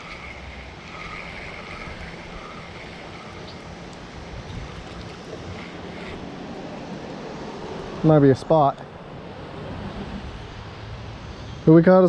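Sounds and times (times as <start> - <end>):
water noise: 0.0 - 11.2
wind rumbling on microphone: 0.0 - 11.2.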